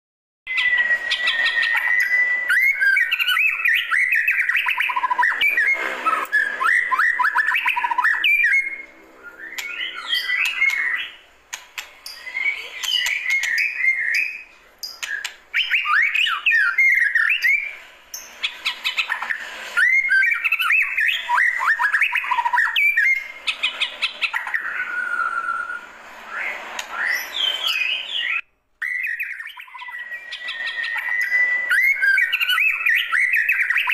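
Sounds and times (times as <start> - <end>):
bird singing whistled phrases: 0.5 - 11.2, 12.1 - 33.9.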